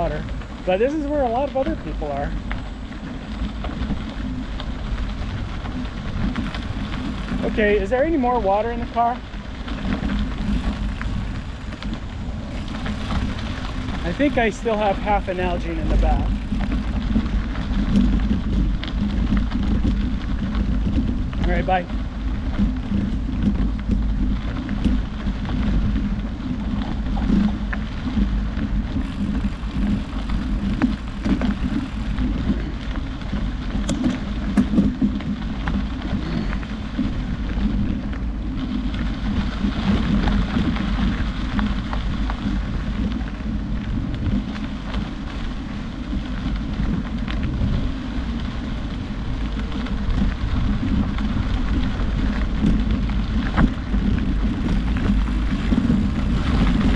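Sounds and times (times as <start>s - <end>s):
wind buffeting the microphone: 0.0s - 56.9s.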